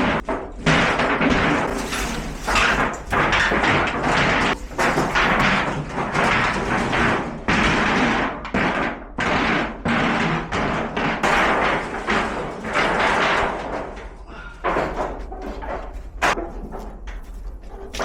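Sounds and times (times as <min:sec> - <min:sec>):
metal debris clattering crashes: 0:00.0 - 0:18.0.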